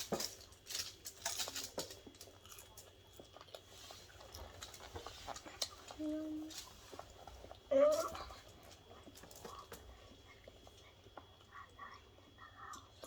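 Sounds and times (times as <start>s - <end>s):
people eating with hands: 0.0s - 13.0s.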